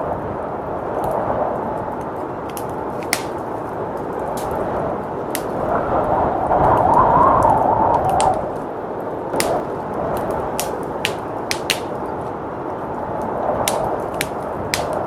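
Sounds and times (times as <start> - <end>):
blizzard wind: 0.0 - 15.0
wood fire crackling and popping: 0.8 - 15.0.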